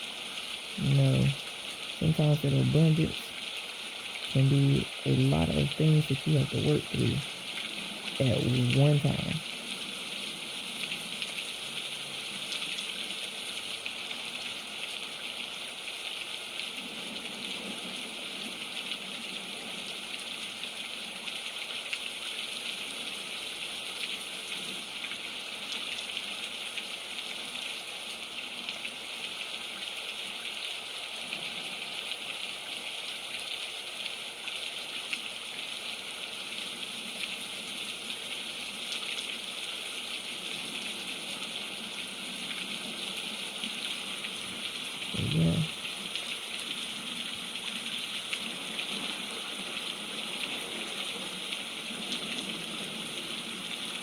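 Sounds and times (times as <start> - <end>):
rain pattering on a tent: 0.0 - 54.0.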